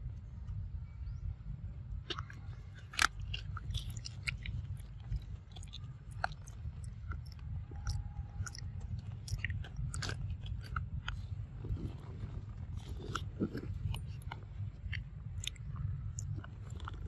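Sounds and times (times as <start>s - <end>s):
steady low rumble: 0.0s - 17.0s
monkey chewing food: 2.1s - 17.0s.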